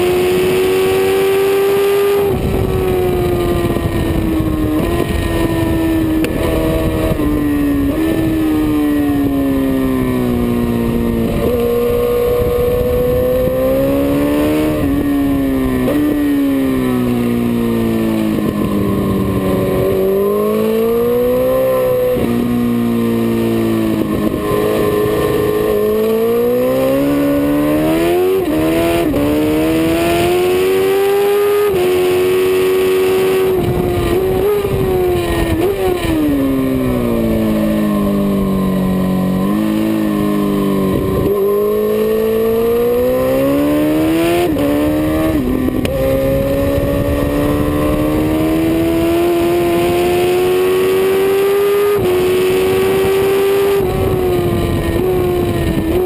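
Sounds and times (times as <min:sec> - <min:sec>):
motorcycle engine revving: 0:00.0 - 0:56.0
wind rush: 0:01.6 - 0:56.0.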